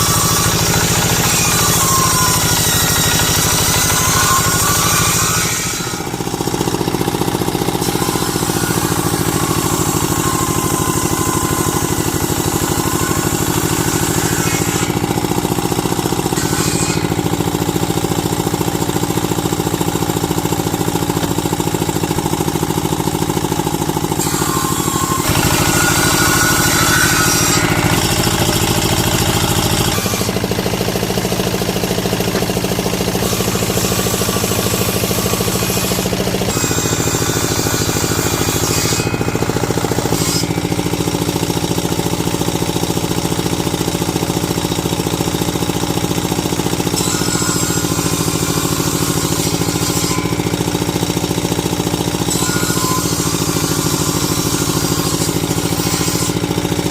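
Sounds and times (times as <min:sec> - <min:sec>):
woodworking machine running: 0:00.0 - 0:56.9.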